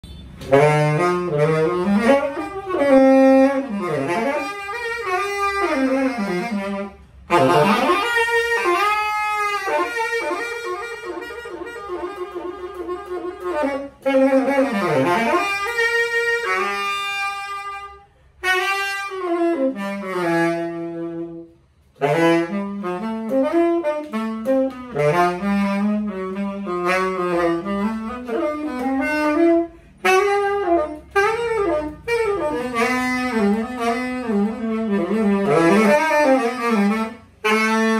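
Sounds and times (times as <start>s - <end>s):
tenor saxophone playing: 0.0s - 37.9s.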